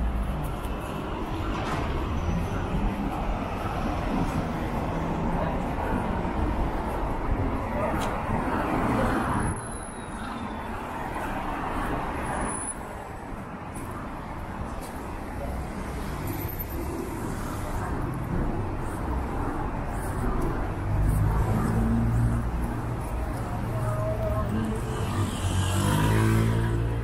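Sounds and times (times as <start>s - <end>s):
road traffic running past: 0.0s - 27.0s.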